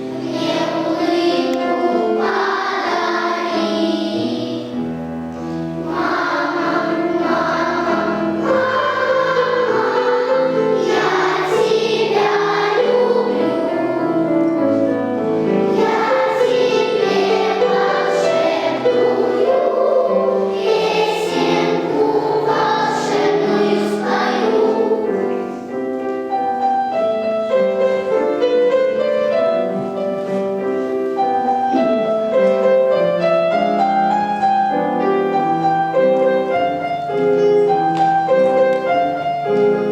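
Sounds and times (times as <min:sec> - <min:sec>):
children's choir singing: 0:00.0 - 0:39.9
piano: 0:00.0 - 0:39.9.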